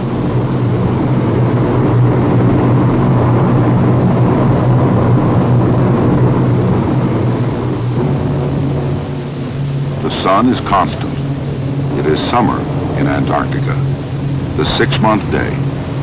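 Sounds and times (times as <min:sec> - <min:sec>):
turboprop aircraft engines droning: 0:00.0 - 0:16.0.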